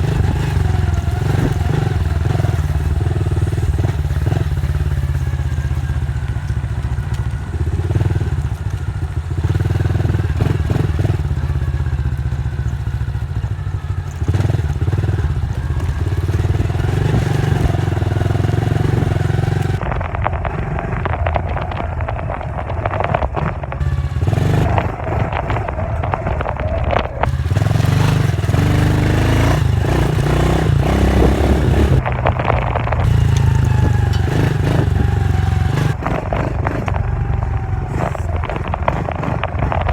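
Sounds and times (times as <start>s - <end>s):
crackles and knocks: 0.0s - 28.6s, 29.6s - 39.9s
dirt bike engine revving: 0.0s - 39.9s.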